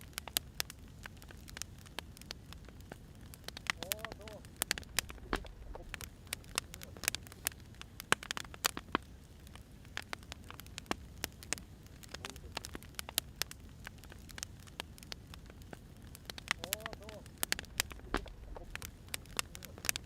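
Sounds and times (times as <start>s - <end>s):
firewood crackling and popping: 0.0s - 20.0s
soft steady hiss: 0.0s - 20.0s.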